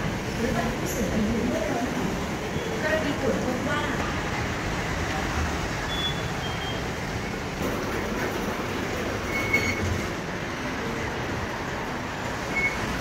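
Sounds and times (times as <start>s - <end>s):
busy train station background noise: 0.0s - 13.0s.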